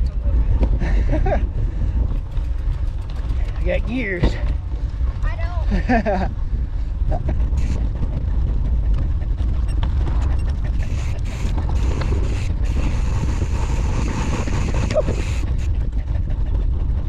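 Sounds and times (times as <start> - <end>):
bike clicks and rattles: 0.0 - 5.3, 5.9 - 17.0
wind rumbling on microphone: 0.0 - 17.0.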